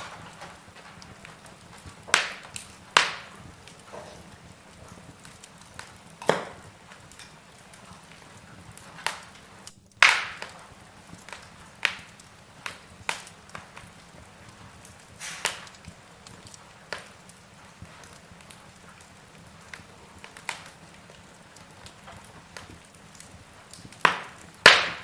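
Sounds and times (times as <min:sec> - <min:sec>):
logs crackling in fireplace: 0:00.0 - 0:25.0
low fire hiss: 0:00.0 - 0:25.0
sharp pops of burning logs: 0:00.0 - 0:25.0.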